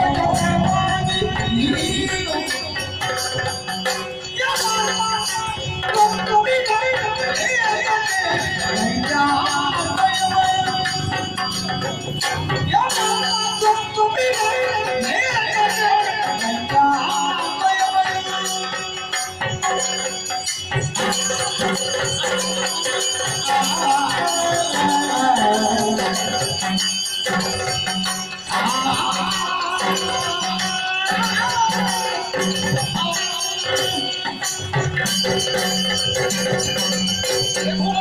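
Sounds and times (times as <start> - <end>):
drums: 0.0 - 38.0
small hand cymbals: 0.0 - 38.0.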